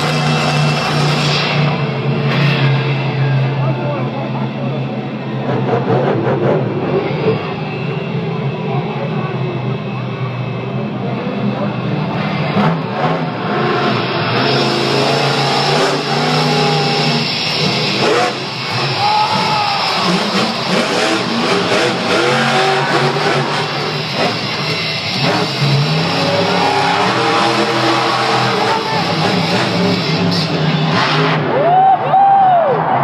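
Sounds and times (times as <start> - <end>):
truck engine revving hard: 0.0 - 31.8.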